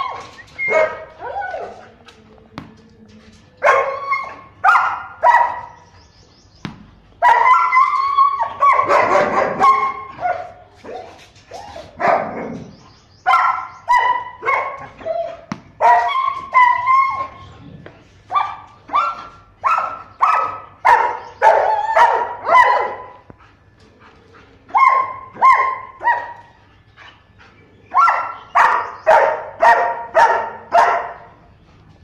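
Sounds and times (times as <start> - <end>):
dogs barking: 0.0 - 2.0, 3.6 - 5.9, 7.2 - 17.4, 18.3 - 23.5, 24.6 - 27.2, 27.8 - 31.4.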